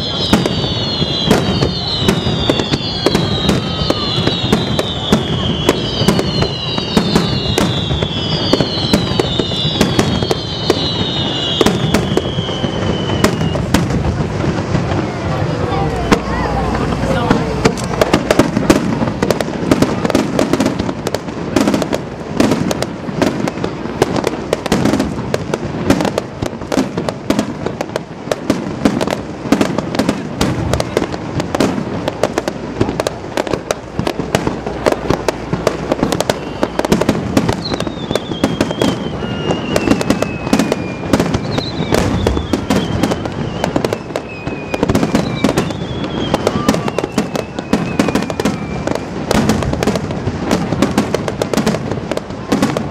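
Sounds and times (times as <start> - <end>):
fireworks whistles falling in pitch: 0.0 - 15.0, 15.7 - 52.9
fireworks bangs and crackles: 0.0 - 52.9.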